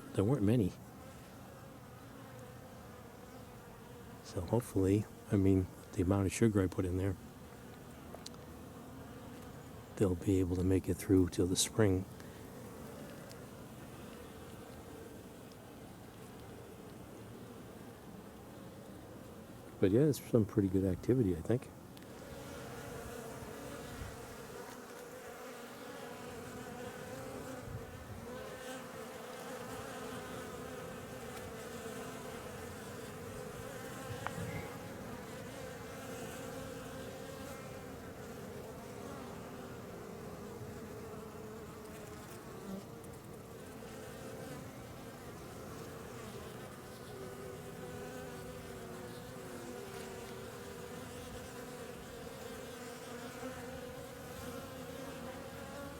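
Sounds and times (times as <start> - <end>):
bees buzzing: 0.0 - 55.9.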